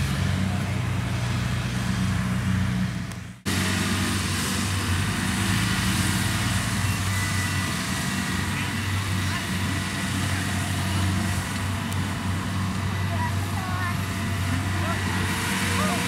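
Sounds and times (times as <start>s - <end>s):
combine harvester diesel engine: 0.0s - 16.0s.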